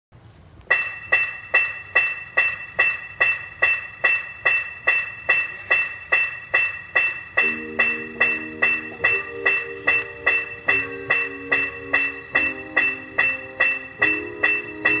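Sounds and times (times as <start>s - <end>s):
metal percussion strikes: 0.7s - 15.0s.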